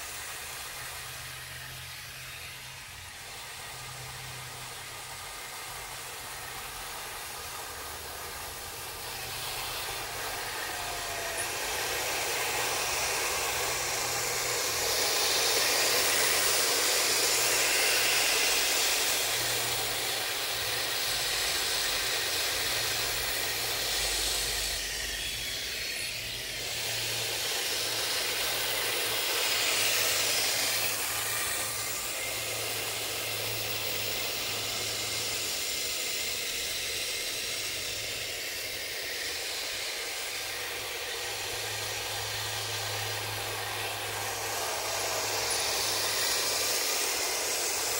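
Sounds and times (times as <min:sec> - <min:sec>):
loud hiss: 0:00.0 - 0:47.9.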